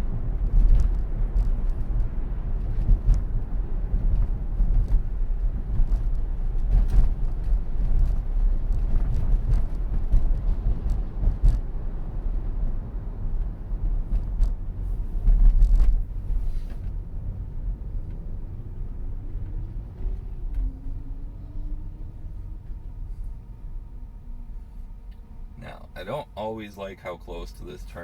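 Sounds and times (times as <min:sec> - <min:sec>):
road and tyre rumble in car cabin: 0:00.0 - 0:28.0.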